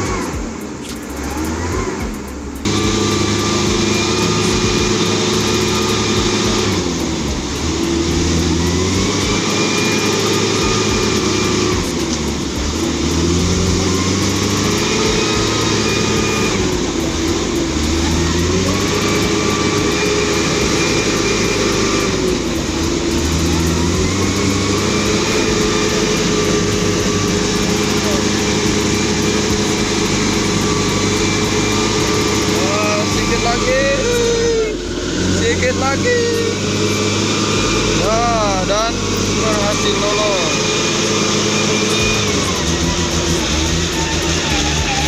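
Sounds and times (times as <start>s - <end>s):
diesel truck engine revving: 0.0s - 45.0s.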